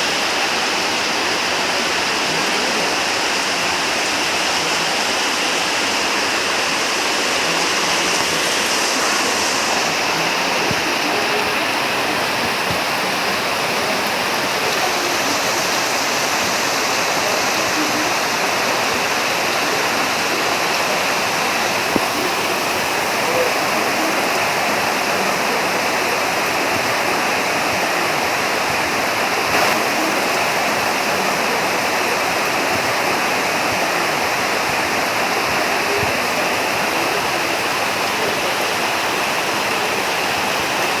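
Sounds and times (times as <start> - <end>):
heavy rain: 0.0 - 41.0
loud raindrops: 0.0 - 41.0.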